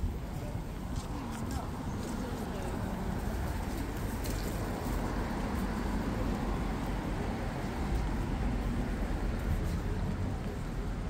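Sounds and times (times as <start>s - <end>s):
faint footsteps on pavement: 0.0s - 11.0s
low rumble of city traffic: 0.0s - 11.0s.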